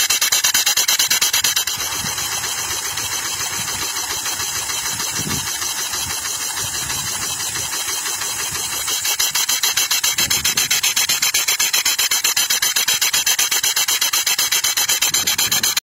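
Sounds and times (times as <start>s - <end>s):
steam engine hissing chuffs: 0.0s - 15.8s.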